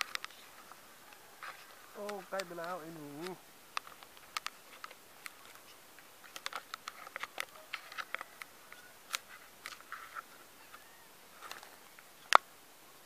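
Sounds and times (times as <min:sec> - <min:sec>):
twig clicking and scratching on dirt: 0:00.0 - 0:12.5.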